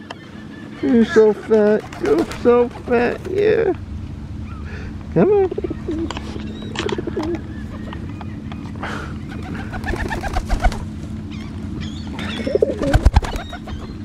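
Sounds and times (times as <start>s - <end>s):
pigeons cooing: 0.0s - 3.8s, 4.4s - 14.0s
steady low hum: 0.0s - 14.0s.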